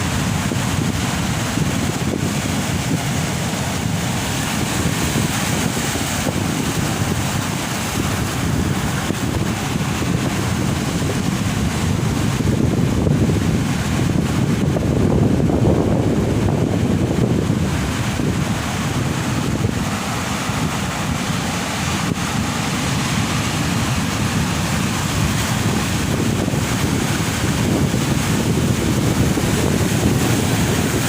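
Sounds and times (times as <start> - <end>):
ocean surf crashing: 0.0 - 31.0
wind buffeting microphone: 0.0 - 31.0.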